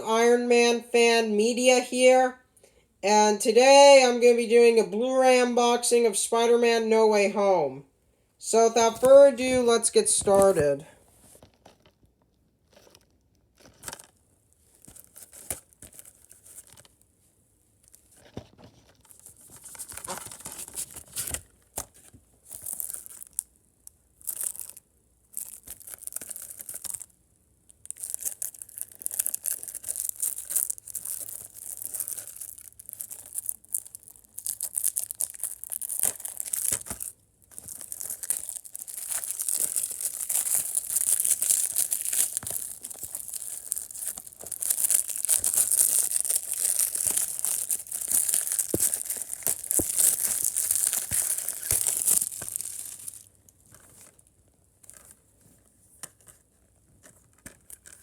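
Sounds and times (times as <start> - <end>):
plastic shrink-wrap crinkling: 8.8 - 17.0, 17.8 - 58.0.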